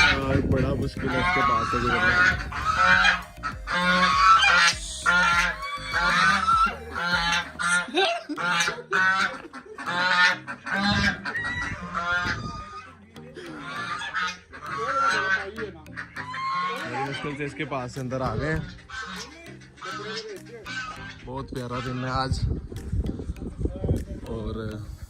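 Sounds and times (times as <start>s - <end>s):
goose honking: 0.0s - 0.4s, 1.0s - 17.7s, 18.6s - 22.3s.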